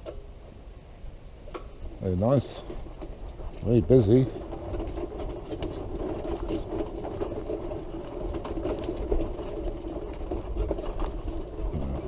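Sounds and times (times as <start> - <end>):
wheels rumbling and clicking on path: 0.0 - 12.0.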